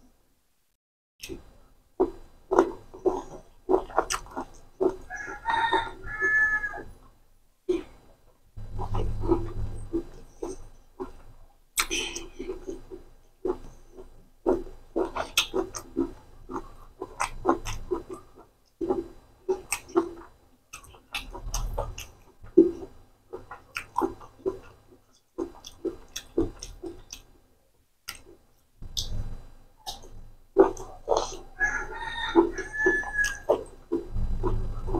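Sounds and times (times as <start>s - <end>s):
close-up chewing food: 1.2s - 34.9s.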